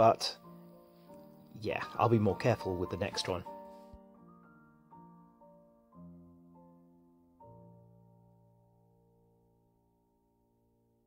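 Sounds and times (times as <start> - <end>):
faint soft background music: 0.0 - 11.0.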